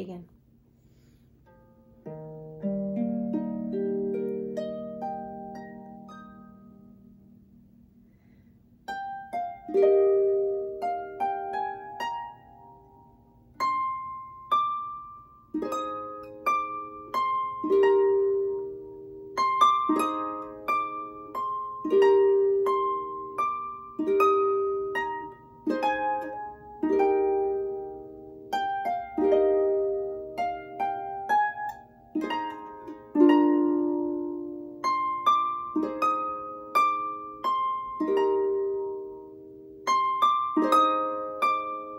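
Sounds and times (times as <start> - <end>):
harp playing a carol: 1.4 - 41.9.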